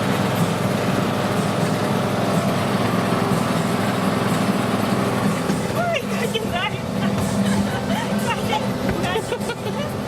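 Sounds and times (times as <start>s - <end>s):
small train engine rumbling: 0.0s - 10.0s.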